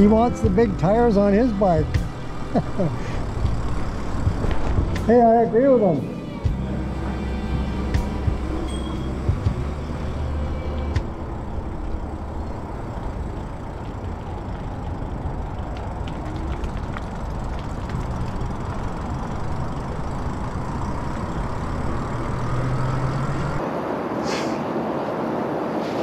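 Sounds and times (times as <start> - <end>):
tyre noise on pavement: 0.0 - 5.5, 6.5 - 23.7.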